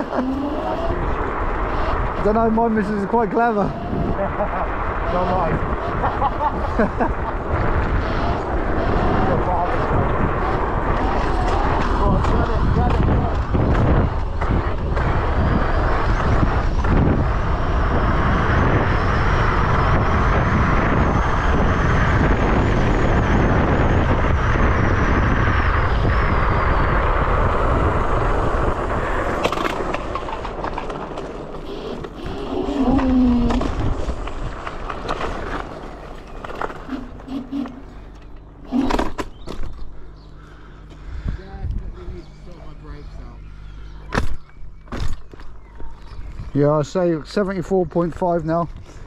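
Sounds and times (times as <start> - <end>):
wind buffeting microphone: 0.0 - 40.4, 41.0 - 43.0
high motor whine: 0.0 - 49.0
scooter ride noise: 0.0 - 49.0.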